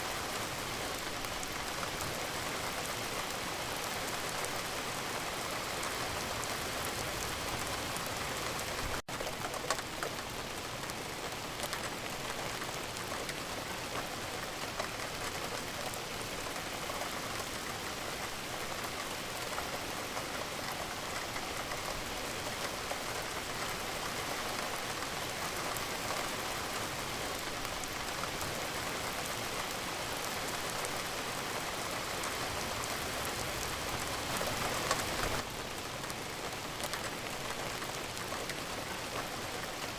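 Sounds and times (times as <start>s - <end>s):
raindrops striking a surface: 0.0s - 39.9s
steady rain: 0.0s - 39.9s.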